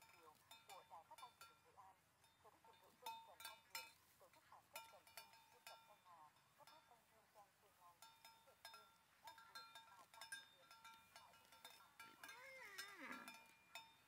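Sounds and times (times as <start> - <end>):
cattle bells clinking: 0.0 - 14.0.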